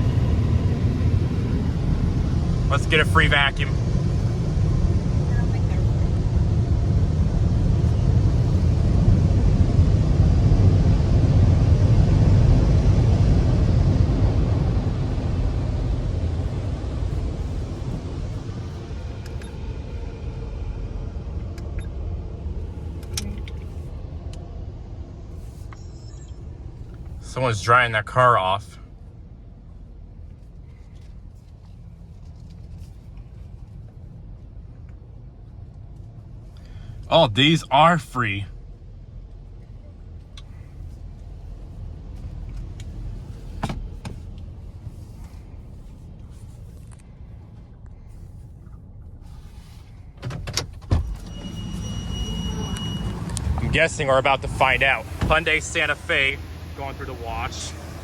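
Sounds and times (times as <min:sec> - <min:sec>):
car engine low rumble: 0:00.0 - 0:58.0.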